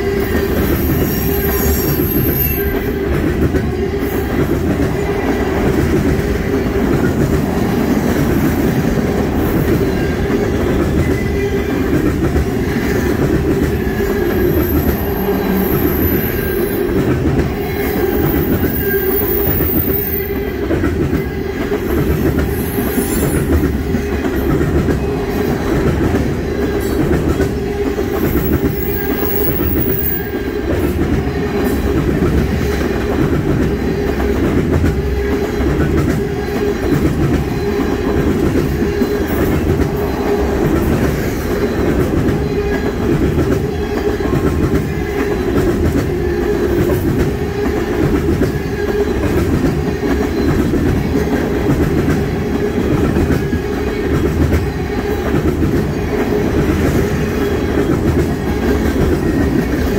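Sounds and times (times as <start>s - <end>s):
train wheels rumbling on rail: 0.0s - 59.9s
wheels clickety-clack: 0.0s - 59.9s.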